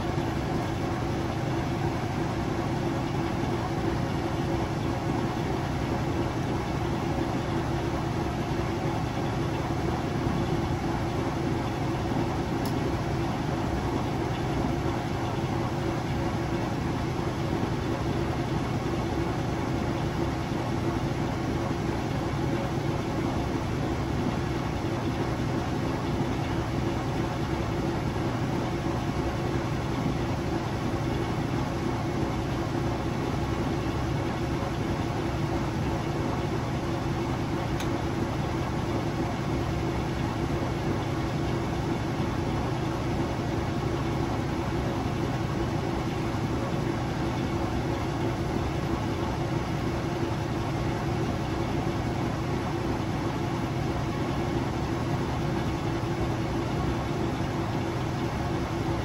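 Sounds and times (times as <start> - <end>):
washing machine motor humming: 0.0 - 59.0.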